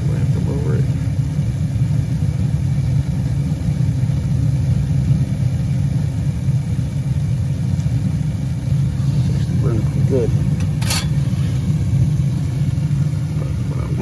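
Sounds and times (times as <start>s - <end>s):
gas burner rumbling: 0.0s - 14.0s.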